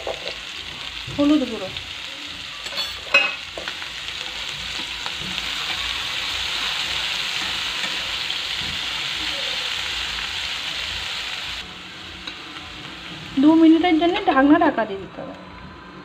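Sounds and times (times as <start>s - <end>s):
tomatoes sizzling in oil: 0.0s - 15.4s.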